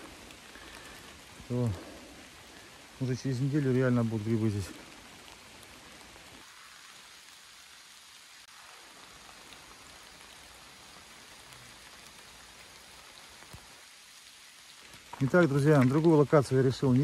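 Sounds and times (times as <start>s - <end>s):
rain patter in woodland: 0.0s - 17.0s.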